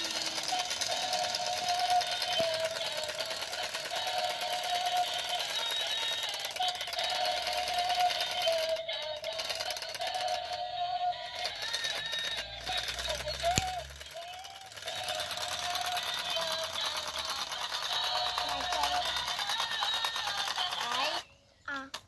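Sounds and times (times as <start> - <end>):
plastic chain whirring: 0.0 - 21.3
toy chainsaw buzzing drone: 0.0 - 21.8.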